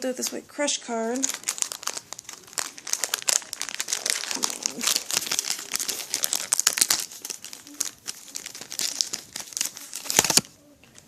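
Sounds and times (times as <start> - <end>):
wrapper crinkling and tearing: 1.1 - 11.0.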